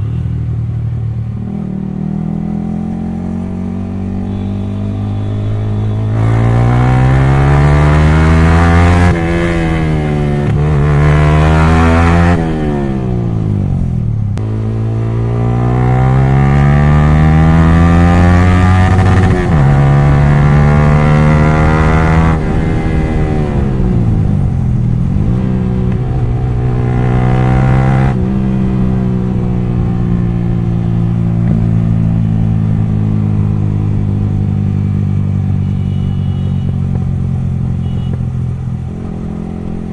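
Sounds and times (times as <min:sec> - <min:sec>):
motorcycle engine revving: 0:01.1 - 0:39.9.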